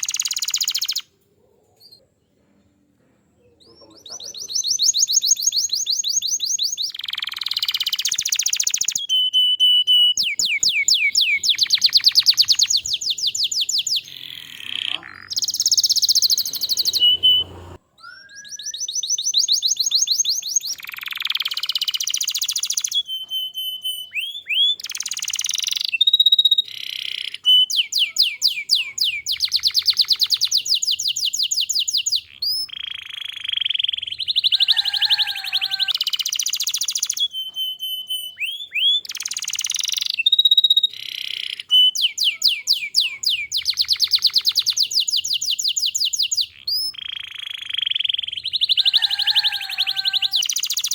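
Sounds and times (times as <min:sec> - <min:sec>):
canary singing: 0:00.0 - 0:02.0, 0:03.5 - 0:50.9.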